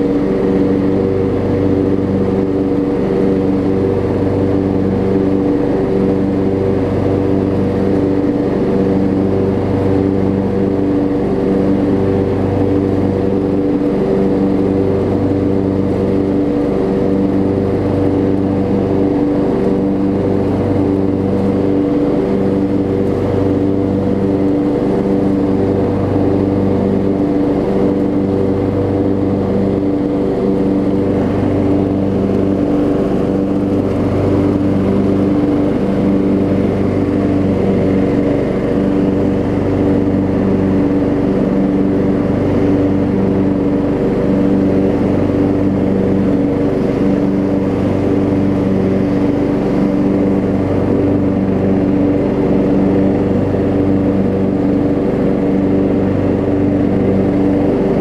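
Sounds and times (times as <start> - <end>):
riding mower engine running: 0.0 - 58.0.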